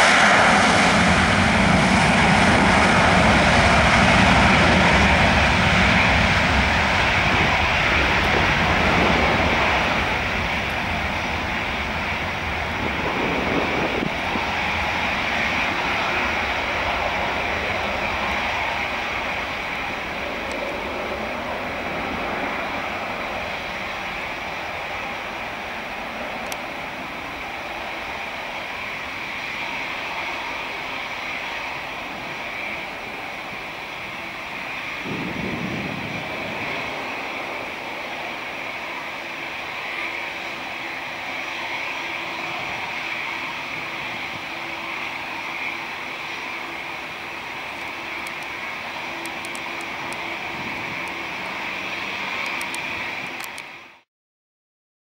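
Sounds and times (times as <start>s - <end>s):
jet engines at high power: 0.0s - 54.1s.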